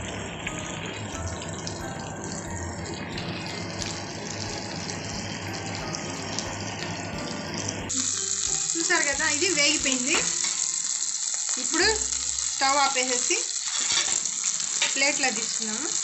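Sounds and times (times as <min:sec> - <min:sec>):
oil sizzling in a pan: 0:00.0 - 0:16.0.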